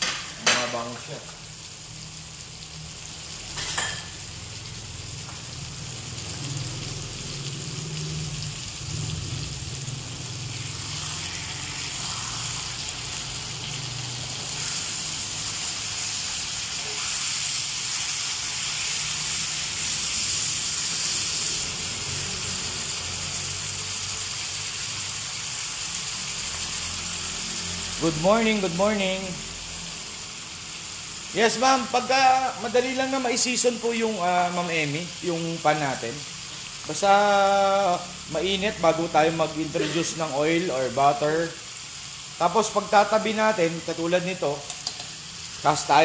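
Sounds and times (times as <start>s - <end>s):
chicken sizzling in hot fat: 0.0s - 46.0s.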